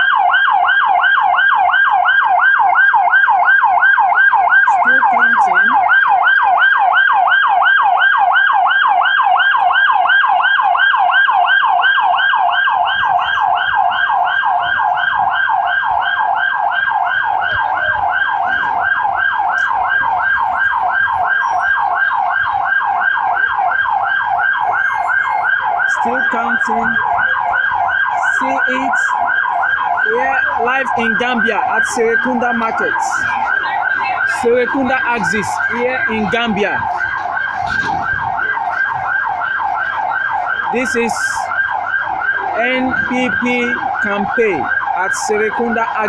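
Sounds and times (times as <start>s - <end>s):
electronic yelp siren: 0.0s - 46.0s.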